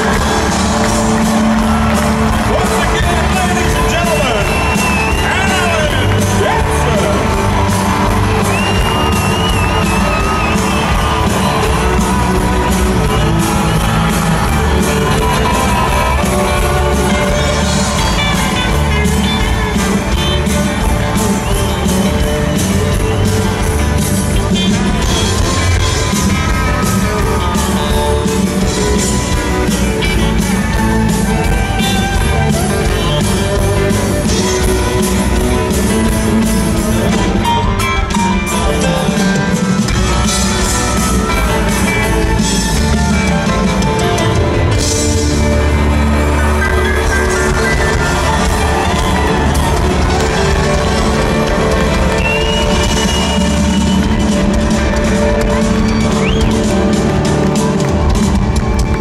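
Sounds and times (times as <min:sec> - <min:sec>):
live country band playing: 0:00.0 - 0:59.0.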